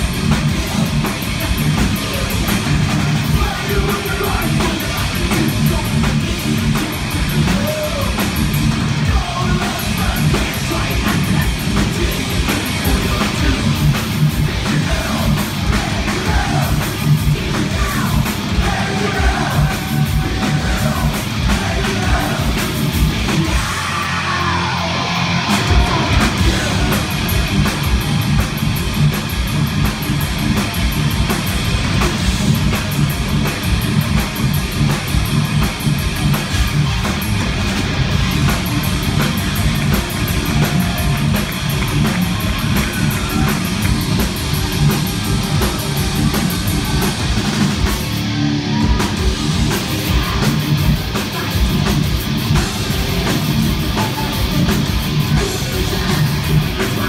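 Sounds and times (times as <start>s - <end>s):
thrash metal band playing live: 0.0s - 57.0s.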